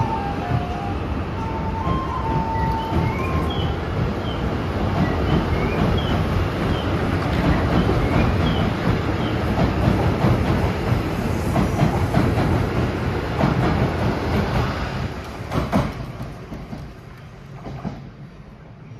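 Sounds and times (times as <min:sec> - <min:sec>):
train running noise: 0:00.0 - 0:18.9.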